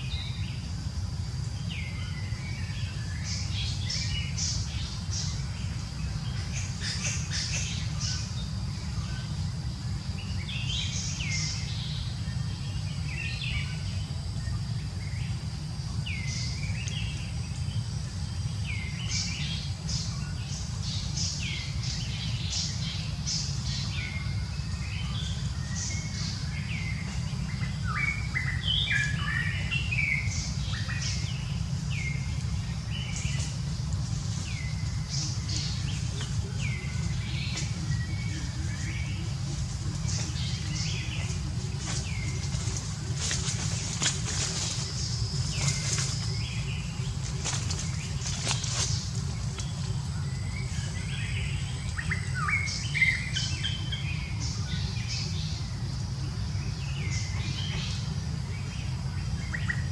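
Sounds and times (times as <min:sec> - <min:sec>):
birds chirping: 0:00.0 - 0:59.9
steady low rumble: 0:00.0 - 0:59.9.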